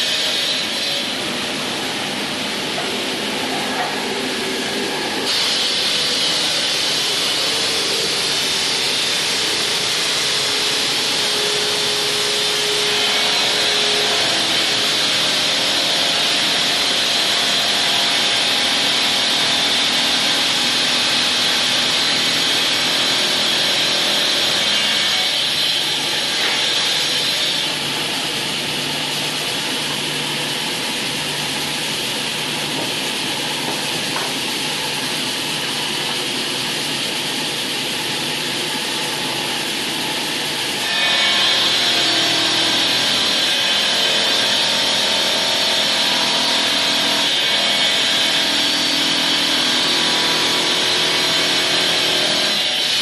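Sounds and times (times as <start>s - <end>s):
power saw cutting stone: 0.0s - 53.0s.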